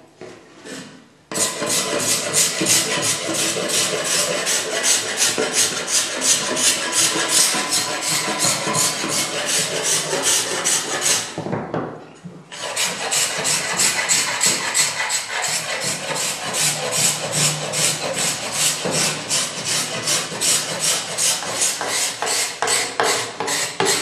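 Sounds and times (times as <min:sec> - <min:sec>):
hand scraper rasping on wood: 0:00.7 - 0:11.4, 0:12.5 - 0:24.0.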